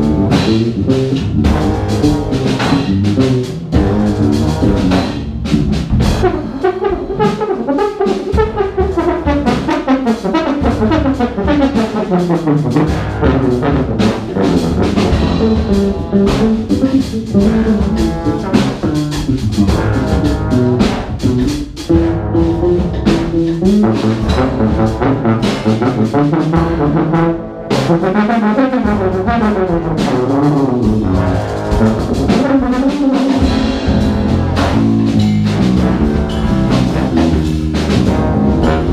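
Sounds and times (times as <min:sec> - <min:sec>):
brass-led jazz band playing: 0:00.0 - 0:38.9.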